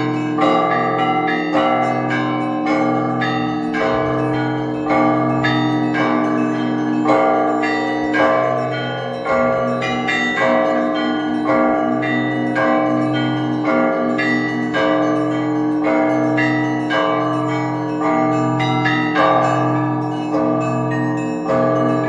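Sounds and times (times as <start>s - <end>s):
church bells pealing: 0.0s - 22.0s
deep bell humming: 0.0s - 22.0s.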